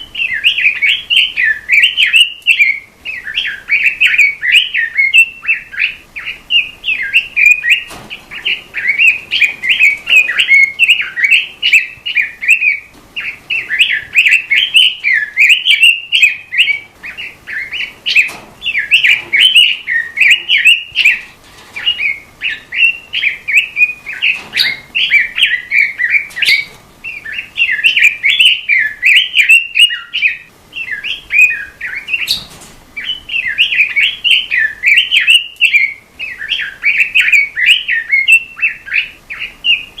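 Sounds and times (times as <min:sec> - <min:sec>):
bird warbling song: 0:00.0 - 0:40.0.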